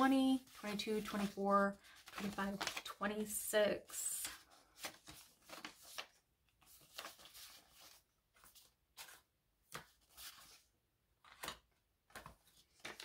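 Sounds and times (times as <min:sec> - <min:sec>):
paper bills rustling: 0:00.1 - 0:03.4, 0:04.1 - 0:13.0.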